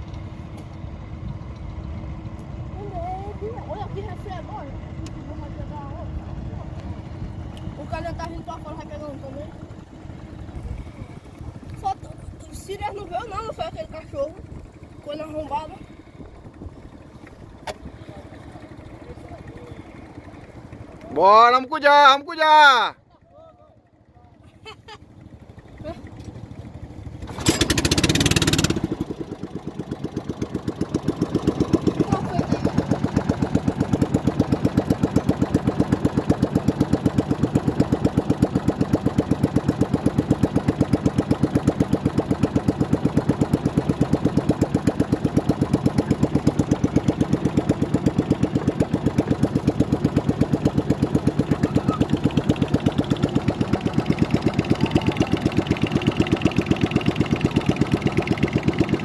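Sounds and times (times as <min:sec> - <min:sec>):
small boat engine puttering: 0:00.0 - 0:59.0.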